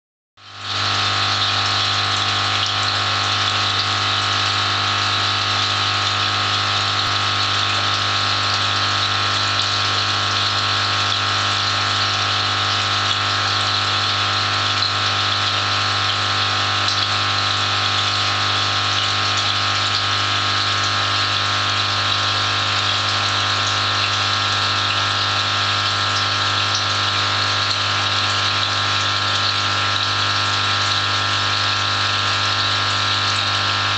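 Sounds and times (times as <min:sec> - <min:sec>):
aquarium pump humming: 0:00.4 - 0:33.9.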